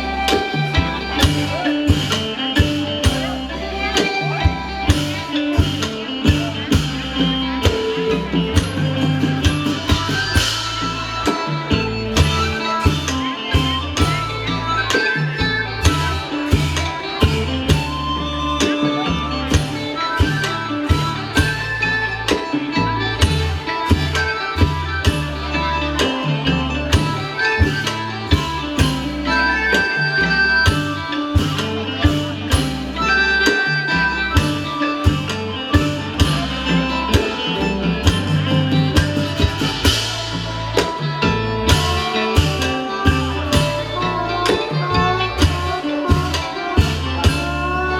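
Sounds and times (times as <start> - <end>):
folk ensemble melody: 0.0 - 47.9
steady drum beat: 0.0 - 47.9.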